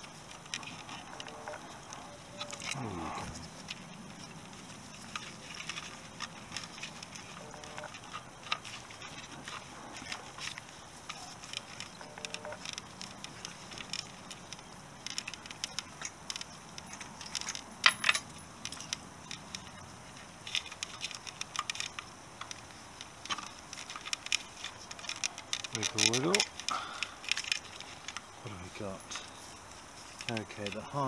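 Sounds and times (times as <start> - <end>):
small plastic clicks and rattles: 0.0 - 31.0.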